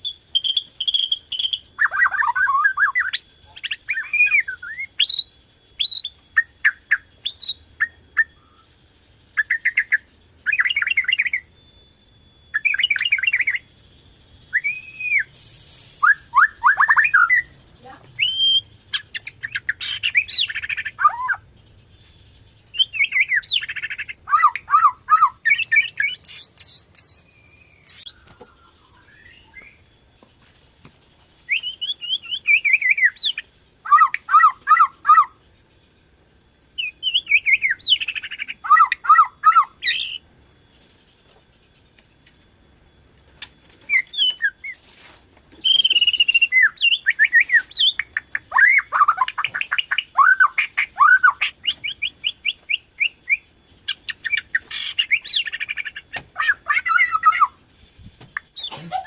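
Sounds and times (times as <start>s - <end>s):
bird singing whistled phrases: 0.0s - 11.6s, 12.5s - 13.7s, 14.4s - 21.4s, 22.7s - 29.8s, 31.4s - 35.4s, 36.7s - 40.2s, 43.9s - 44.8s, 45.6s - 57.6s.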